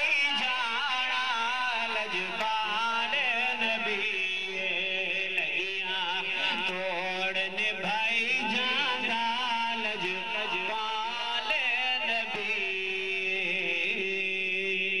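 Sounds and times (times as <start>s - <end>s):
man chanting through loudspeaker: 0.0s - 15.0s.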